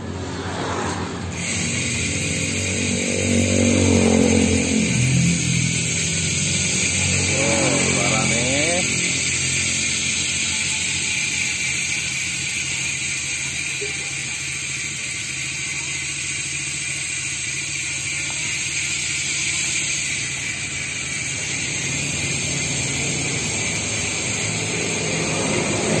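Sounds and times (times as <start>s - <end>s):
bicycle freehub ratcheting buzz: 0.1s - 26.0s.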